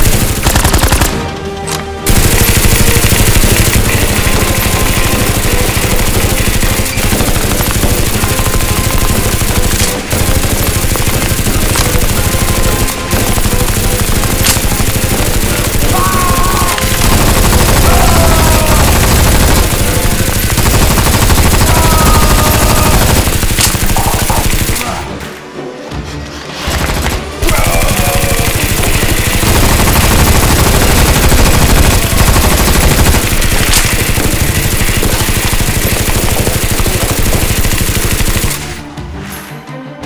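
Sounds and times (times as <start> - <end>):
toy blasters firing rapidly: 0.0 - 1.2, 2.1 - 25.0, 27.4 - 38.8.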